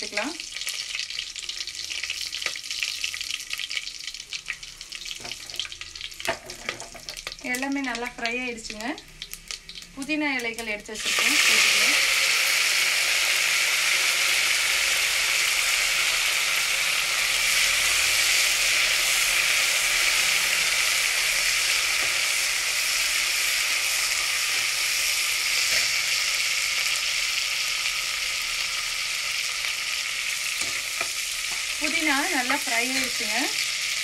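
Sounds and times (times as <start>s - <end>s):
mint leaves sizzling in hot oil: 0.0s - 34.0s.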